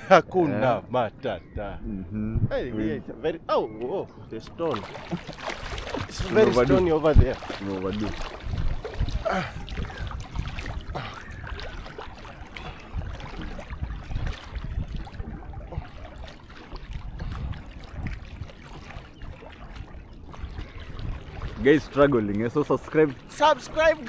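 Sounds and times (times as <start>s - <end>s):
water rumbling against microphone: 0.6s - 24.0s
seawater sloshing and lapping: 4.5s - 24.0s.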